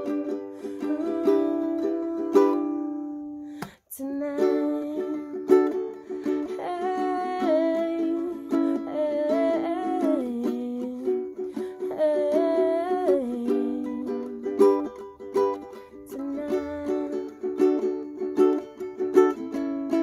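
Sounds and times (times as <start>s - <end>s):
ukulele strumming chords: 0.0s - 20.0s.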